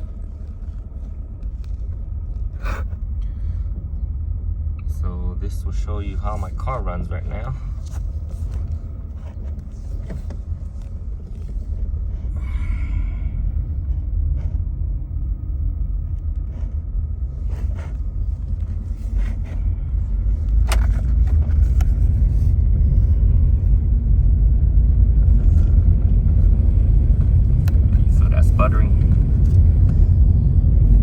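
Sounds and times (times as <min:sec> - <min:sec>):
car engine low rumble: 0:00.0 - 0:31.0.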